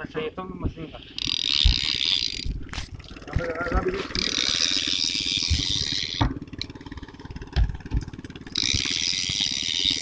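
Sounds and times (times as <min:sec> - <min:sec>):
boat engine running: 0:00.0 - 0:10.0
fishing reel whirring: 0:00.8 - 0:10.0.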